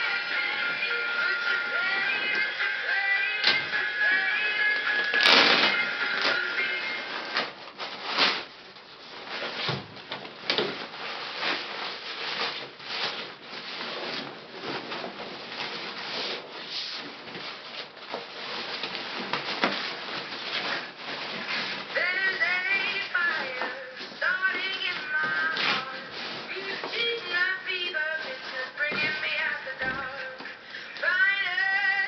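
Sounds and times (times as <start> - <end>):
bag rustling and rubbing: 0.0 - 30.8.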